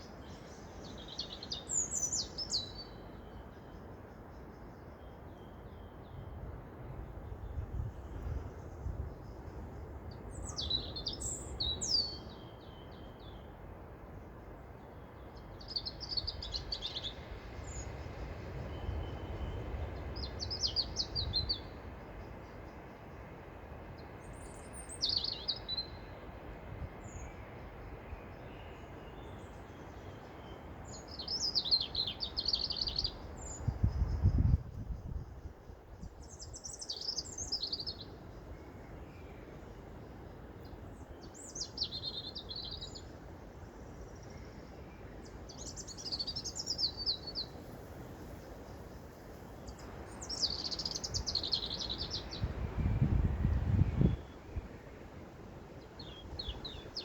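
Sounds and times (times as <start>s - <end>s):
low rumble of wind: 0.0s - 57.0s
songbird singing: 0.0s - 57.0s.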